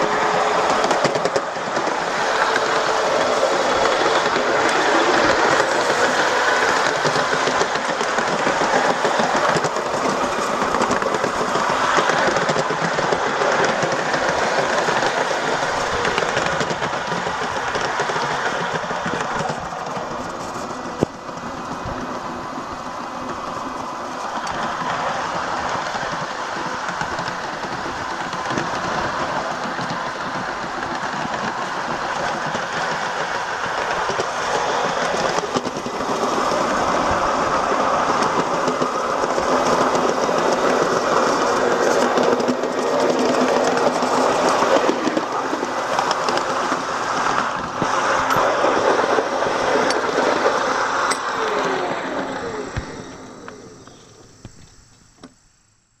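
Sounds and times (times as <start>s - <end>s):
miniature train wheels rattling on rails: 0.0s - 55.3s.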